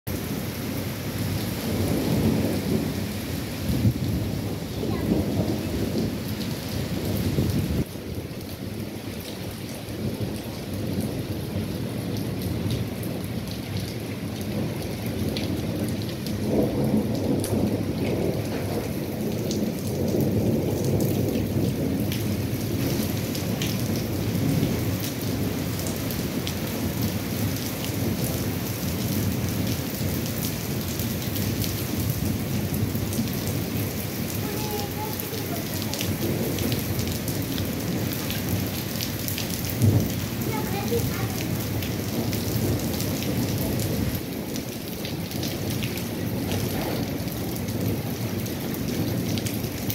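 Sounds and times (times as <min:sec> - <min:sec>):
low rumble of thunder: 0:00.1 - 0:49.9
raindrops ticking on surfaces: 0:00.1 - 0:49.9
steady rain: 0:00.1 - 0:49.9.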